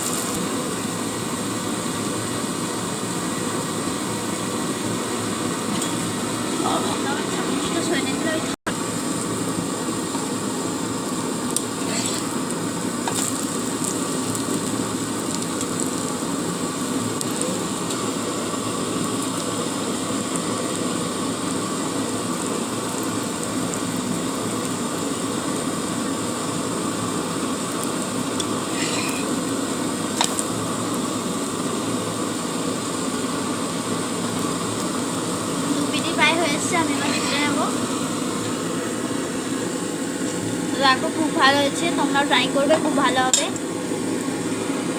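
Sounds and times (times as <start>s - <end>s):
egg batter sizzling in oil: 0.0s - 44.9s.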